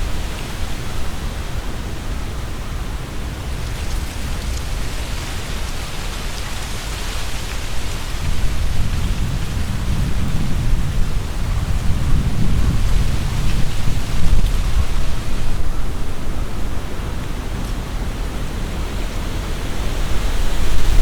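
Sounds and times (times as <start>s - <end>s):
leaves rustling in wind: 0.0s - 21.0s
wind rumble on microphone: 0.0s - 21.0s.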